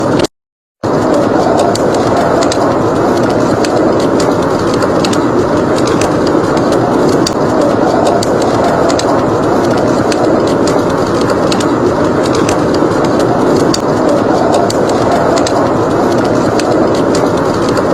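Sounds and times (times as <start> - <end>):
blizzard wind rushing: 0.0 - 17.9
wood fire crackling: 0.0 - 17.9.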